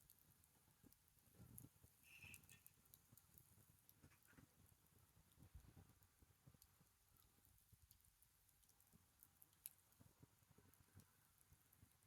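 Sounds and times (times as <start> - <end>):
bonfire crackling: 0.0 - 12.0.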